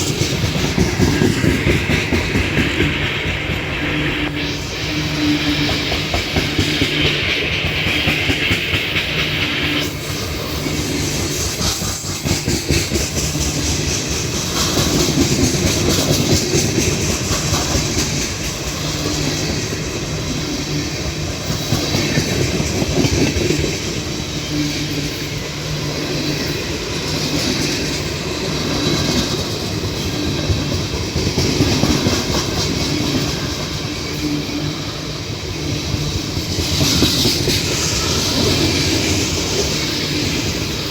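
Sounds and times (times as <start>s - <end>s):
train rumble: 0.0s - 40.9s
train wheels clacking: 0.0s - 40.9s.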